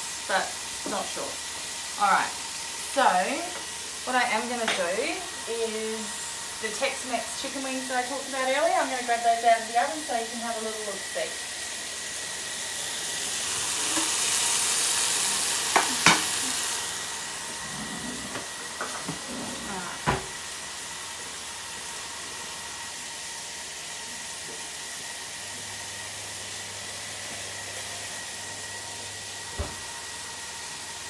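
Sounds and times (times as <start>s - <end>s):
chicken sizzling in a wok: 0.0s - 31.0s.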